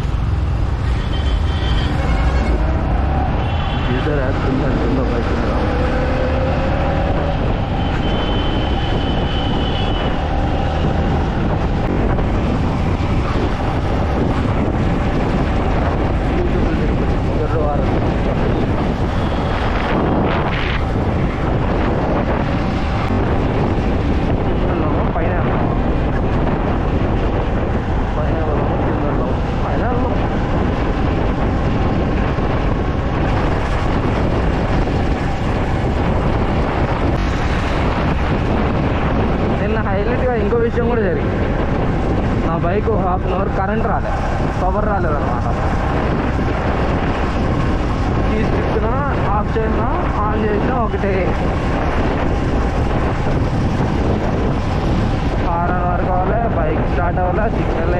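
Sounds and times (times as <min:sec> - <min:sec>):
road noise of vehicles: 0:00.0 - 0:57.9
wind buffeting microphone: 0:00.0 - 0:57.9.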